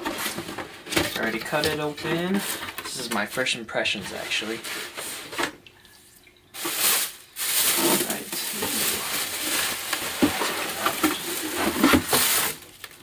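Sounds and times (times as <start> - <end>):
plastic and cardboard rustling: 0.0 - 5.5, 6.6 - 13.0.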